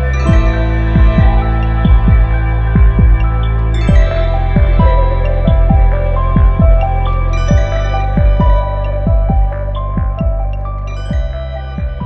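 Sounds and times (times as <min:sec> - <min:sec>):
low thumping beat: 0:00.0 - 0:12.0
struck melody notes: 0:00.0 - 0:12.0
sustained synth pad: 0:00.0 - 0:12.0.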